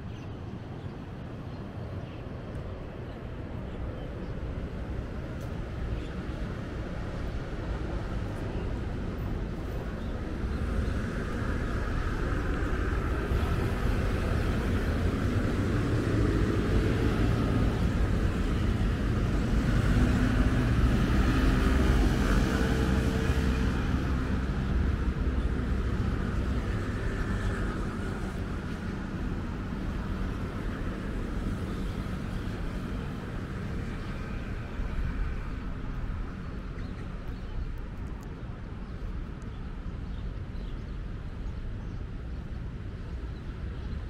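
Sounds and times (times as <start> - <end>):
city background noise: 0.0 - 44.0.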